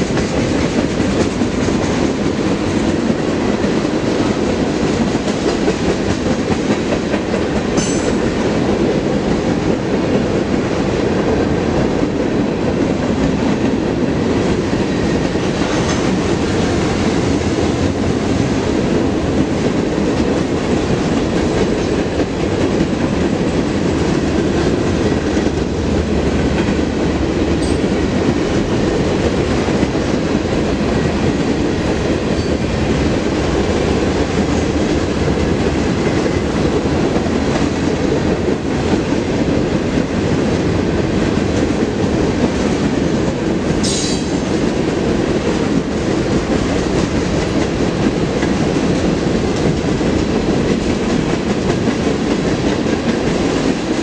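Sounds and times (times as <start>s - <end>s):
clickety-clack over rail joints: 0.0s - 54.0s
train wheels rumbling on rails: 0.0s - 54.0s.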